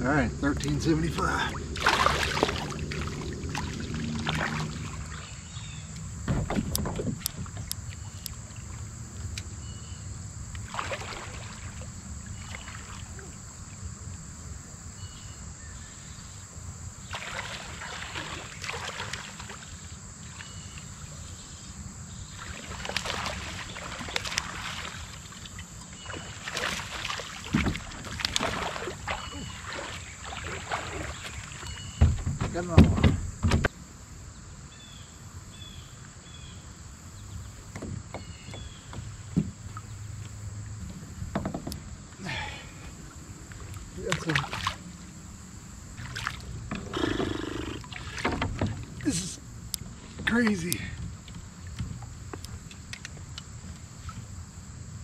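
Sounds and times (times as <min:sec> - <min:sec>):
high insect drone: 0:00.0 - 0:55.0
water splashing around kayak: 0:00.6 - 0:14.6, 0:16.9 - 0:33.0, 0:37.6 - 0:54.5.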